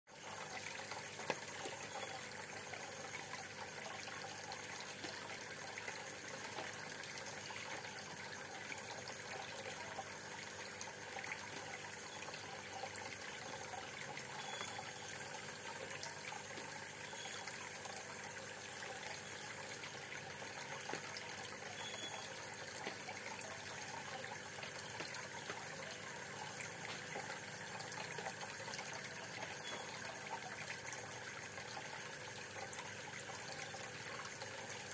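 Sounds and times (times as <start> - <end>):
aquarium water bubbling: 0.1 - 34.9.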